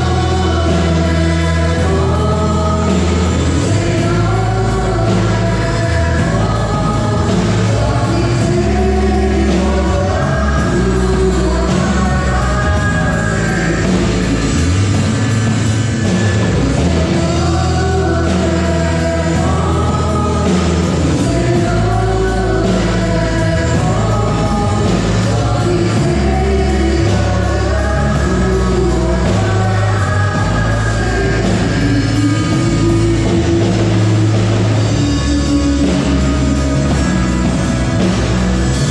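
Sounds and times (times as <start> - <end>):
band accompaniment: 0.0 - 38.9
electric bass: 0.0 - 38.9
gospel vocals: 0.0 - 38.9.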